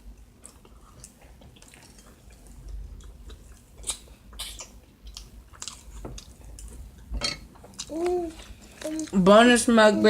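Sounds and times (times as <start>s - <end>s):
person chewing and lip smacking: 0.1s - 7.0s, 7.6s - 9.2s.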